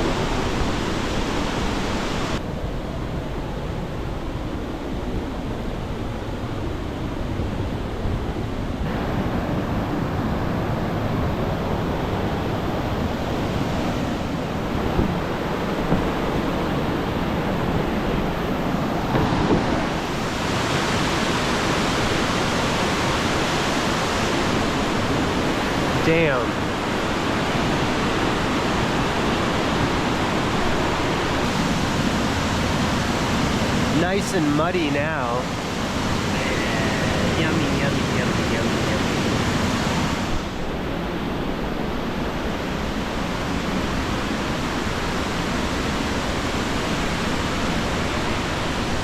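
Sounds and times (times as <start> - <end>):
waterfall rushing: 0.0 - 2.4, 8.9 - 49.0.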